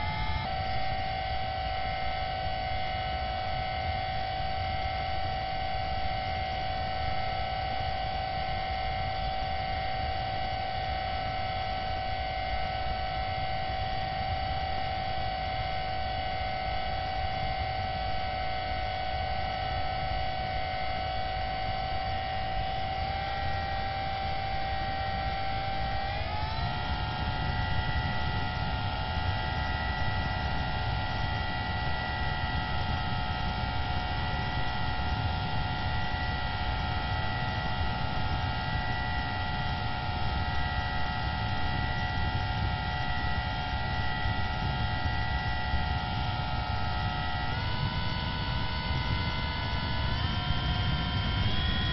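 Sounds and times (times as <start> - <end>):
model airplane electric motor whine: 0.0 - 51.9.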